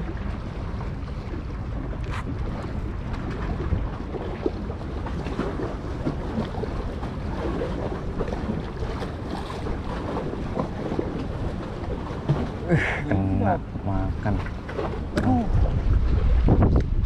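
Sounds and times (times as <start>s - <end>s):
small water splashes: 0.0s - 17.0s
wind buffeting microphone: 0.0s - 17.0s.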